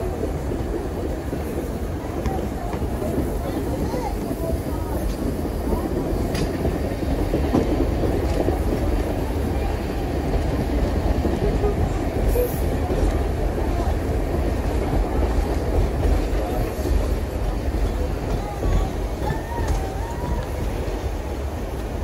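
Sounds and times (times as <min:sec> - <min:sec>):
train wheels rumbling on rail: 0:00.0 - 0:22.0
wind buffeting microphone: 0:00.0 - 0:22.0.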